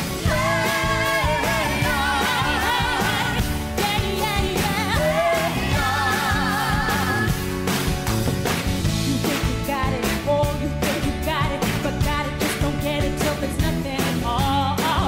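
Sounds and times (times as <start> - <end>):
live pop band: 0.0 - 15.0
woman singing: 0.1 - 7.4, 9.1 - 15.0.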